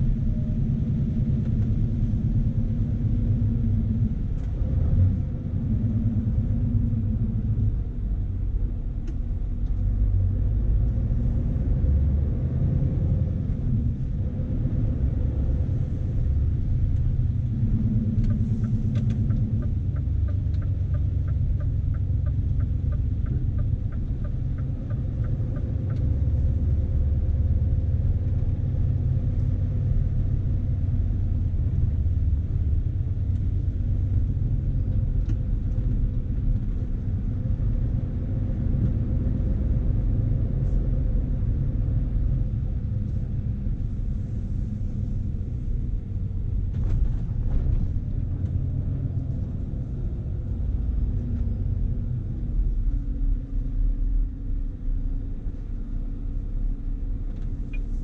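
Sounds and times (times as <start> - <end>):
diesel engine rumble inside cab: 0.0 - 58.0.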